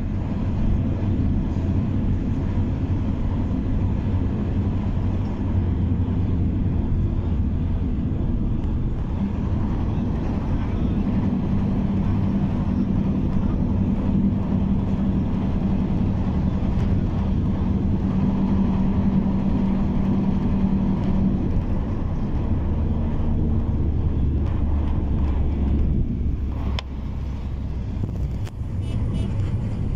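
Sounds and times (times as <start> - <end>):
car engine and tyre hum: 0.0 - 29.9.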